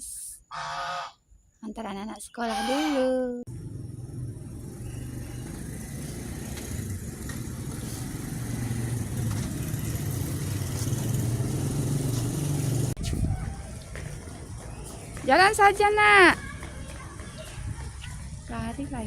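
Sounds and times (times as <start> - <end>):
vehicle engine humming: 3.5 - 19.0.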